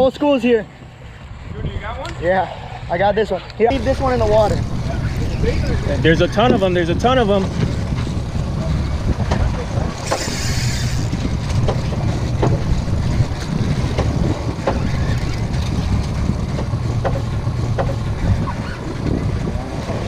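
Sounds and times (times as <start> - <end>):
wind rumble on microphone: 0.8 - 20.0
water washing against hull: 3.8 - 20.0.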